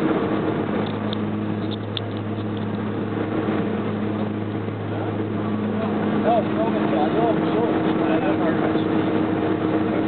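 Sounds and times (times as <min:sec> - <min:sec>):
airliner engines droning in cabin: 0:00.0 - 0:10.0.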